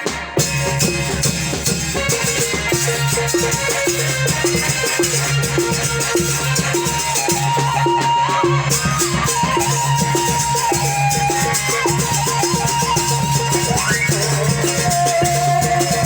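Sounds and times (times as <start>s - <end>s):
shaken and struck percussion: 0.0s - 16.0s
ensemble melody line: 0.4s - 16.0s.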